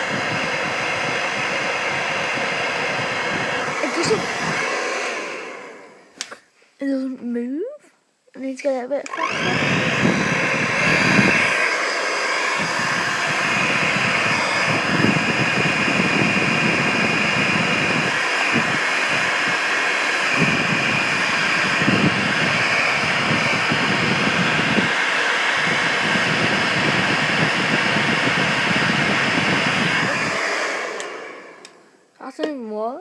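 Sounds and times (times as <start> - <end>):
hair dryer running: 0.0 - 6.4, 9.0 - 32.5.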